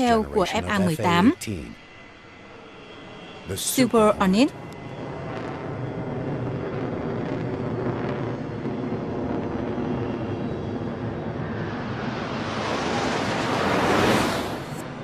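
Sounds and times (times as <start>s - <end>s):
jet engine rushing: 2.4s - 15.0s.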